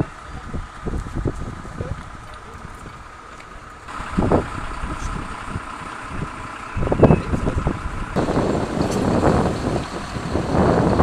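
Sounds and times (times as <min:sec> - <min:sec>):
short engine bursts: 0:00.0 - 0:11.0
vehicle engines rumbling: 0:00.0 - 0:11.0.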